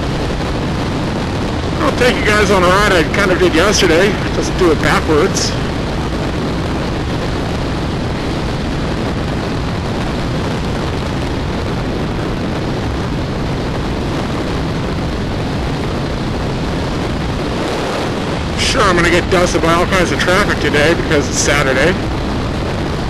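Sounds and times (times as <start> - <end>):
wind rush on microphone: 0.0 - 23.0.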